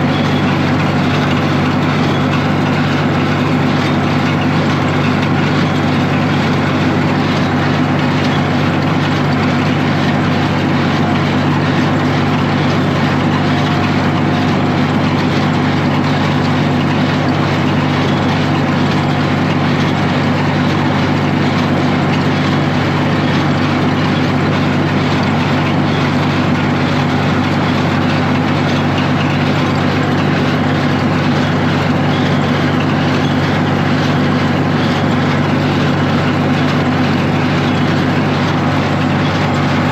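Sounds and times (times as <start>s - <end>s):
baler machine drone: 0.0s - 39.9s
tractor engine under load: 0.0s - 39.9s.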